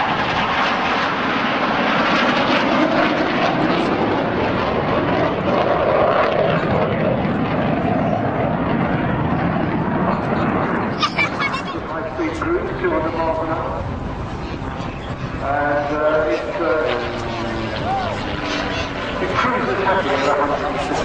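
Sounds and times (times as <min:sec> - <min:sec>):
aircraft engine rushing: 0:00.0 - 0:21.0.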